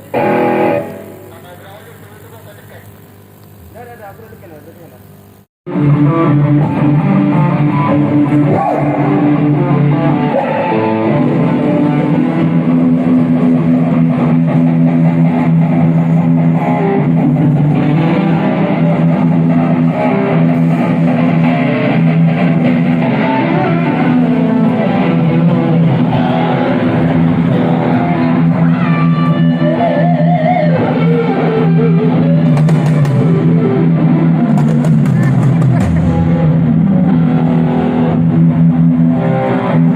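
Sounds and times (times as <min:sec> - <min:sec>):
live rock band playing: 0:00.0 - 0:01.3, 0:05.7 - 0:39.9
electric guitar: 0:00.0 - 0:04.4, 0:05.7 - 0:39.9.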